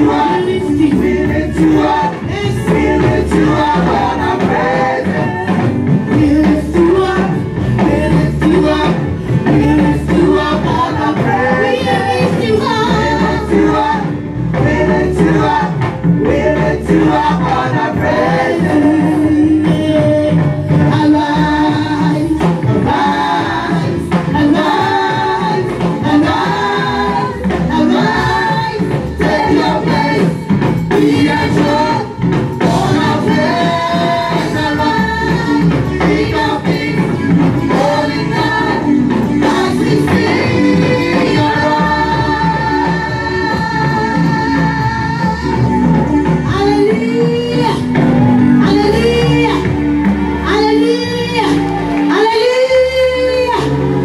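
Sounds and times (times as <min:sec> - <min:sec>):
gospel singing with band: 0:00.0 - 0:54.0.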